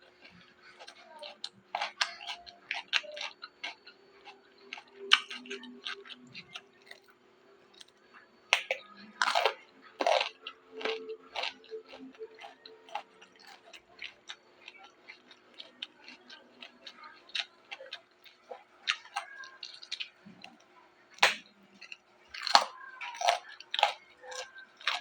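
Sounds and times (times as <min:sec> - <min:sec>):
crunching raw vegetables: 0:00.0 - 0:25.0.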